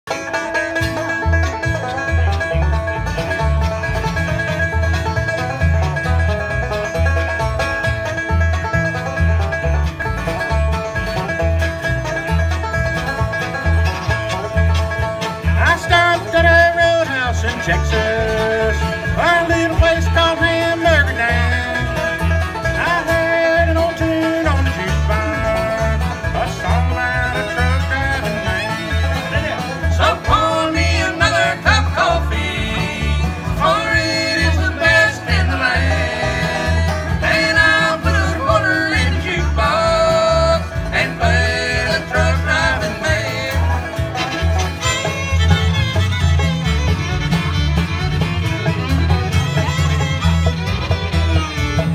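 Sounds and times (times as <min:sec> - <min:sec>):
banjo: 0:00.0 - 0:51.9
fiddle: 0:00.0 - 0:51.9
upright bass: 0:00.0 - 0:51.9
acoustic guitar: 0:00.1 - 0:51.9.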